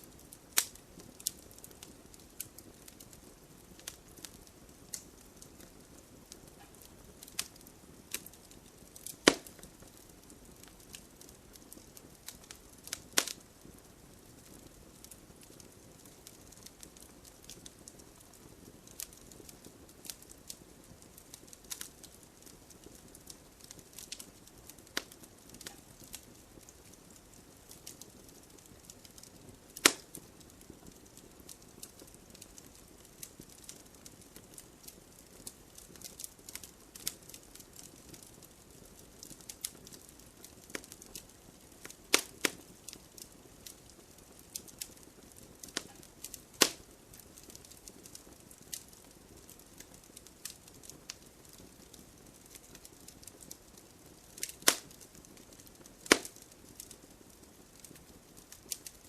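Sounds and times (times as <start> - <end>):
faint steady hiss: 0.0 - 59.0
firewood crackling and popping: 0.0 - 59.0.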